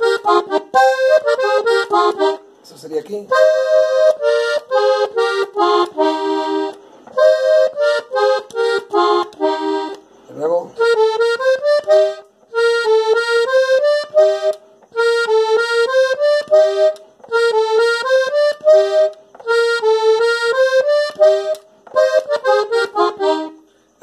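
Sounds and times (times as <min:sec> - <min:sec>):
button accordion melody: 0:00.0 - 0:23.8.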